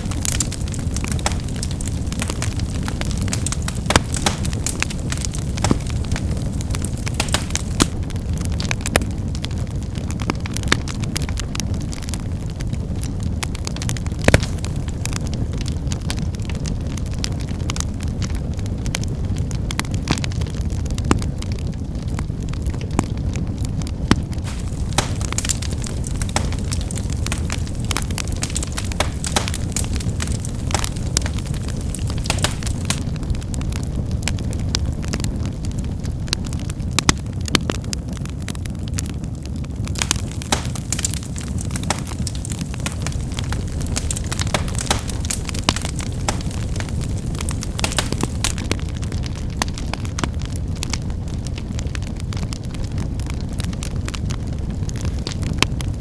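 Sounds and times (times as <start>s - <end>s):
fire low rumble: 0.0s - 56.0s
firewood crackling and popping: 0.0s - 56.0s.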